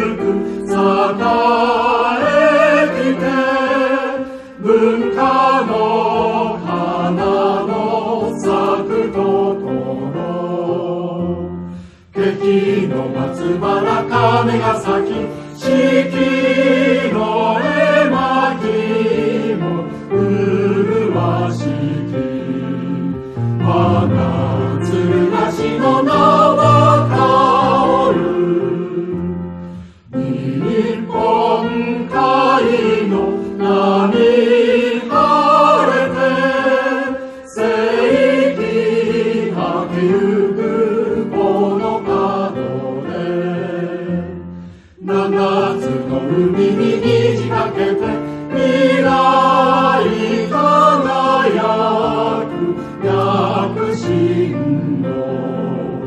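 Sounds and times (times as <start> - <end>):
choral singing with music: 0.0 - 56.0.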